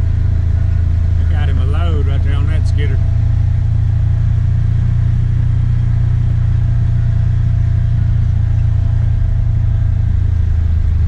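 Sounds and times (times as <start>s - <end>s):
faint drivetrain tone: 0.0s - 11.0s
utility vehicle engine rumble: 0.0s - 11.0s.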